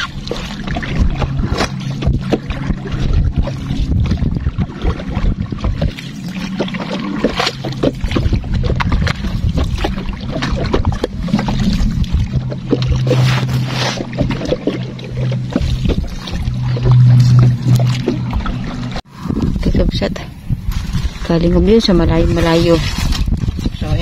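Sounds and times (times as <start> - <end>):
boat motor humming: 0.0 - 23.6.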